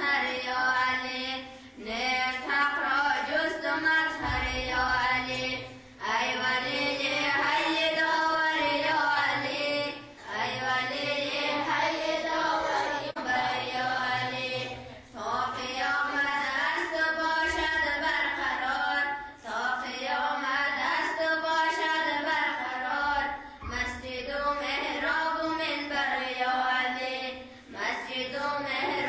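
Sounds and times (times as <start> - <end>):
person chanting devotional verses: 0.0 - 29.0.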